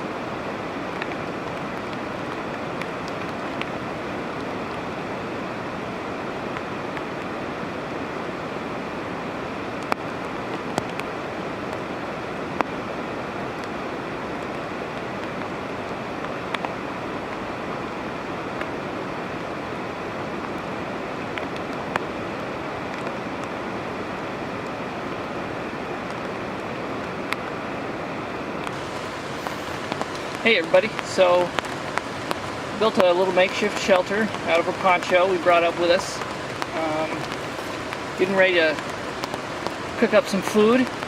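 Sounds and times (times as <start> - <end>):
water rushing: 0.0 - 41.0.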